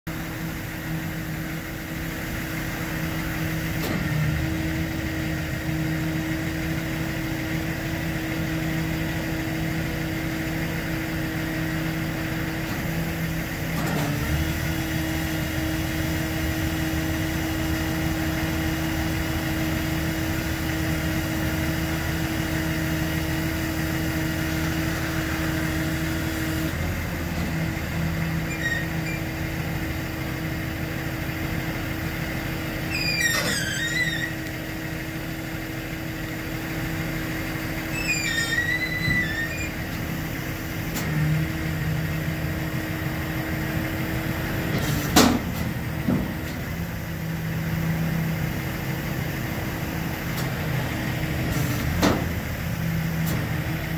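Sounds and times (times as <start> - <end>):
hydraulic mechanical hum: 0.1 - 53.9
tow truck engine running: 0.1 - 53.9.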